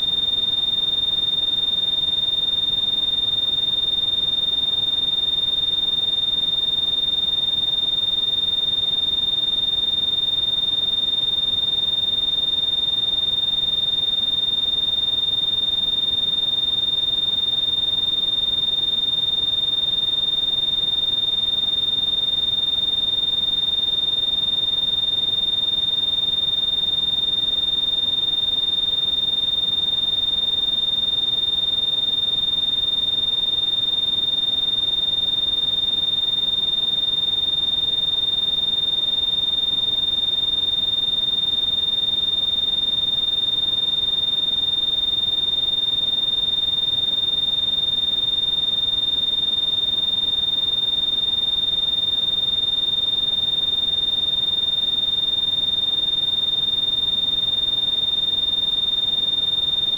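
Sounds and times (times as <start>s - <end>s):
high-pitched pure beep tone: 0.0s - 59.9s.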